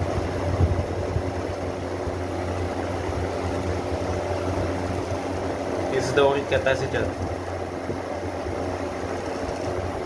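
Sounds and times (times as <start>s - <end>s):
exhaust fan humming: 0.0s - 10.0s.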